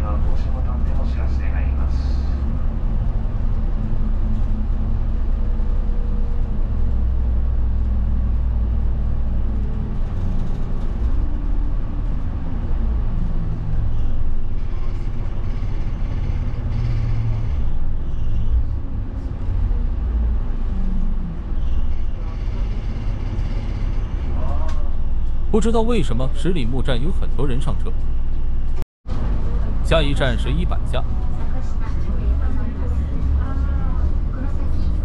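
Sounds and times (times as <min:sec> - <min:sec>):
bus engine rumble: 0:00.0 - 0:35.0
road noise: 0:00.0 - 0:35.0.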